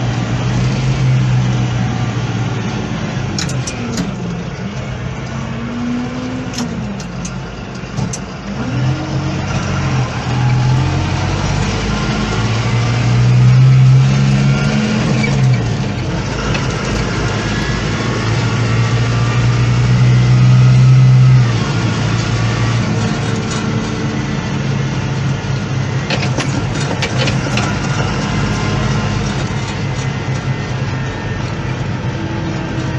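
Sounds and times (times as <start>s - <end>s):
diesel farm machinery engine: 0.0s - 32.9s.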